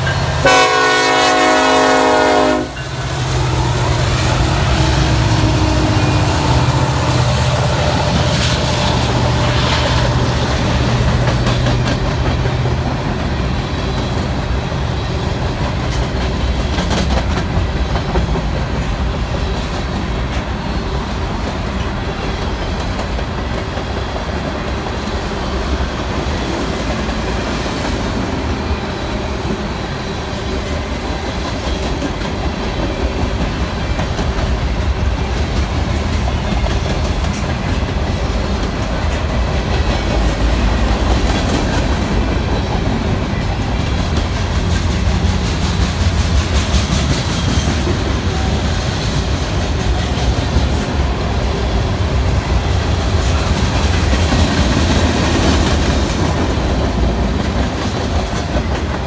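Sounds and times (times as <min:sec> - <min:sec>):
diesel locomotive engine drone: 0:00.0 - 0:59.0
train wheels clattering over rails: 0:02.8 - 0:59.0.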